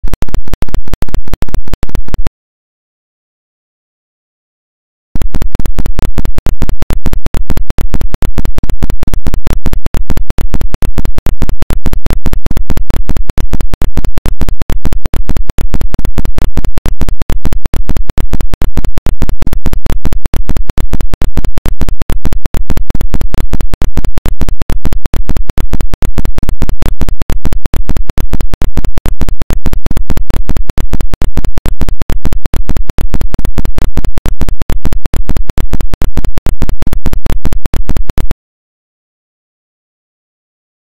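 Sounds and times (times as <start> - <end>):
stuttering distorted digital noise: 0.0 - 2.3, 5.2 - 38.4.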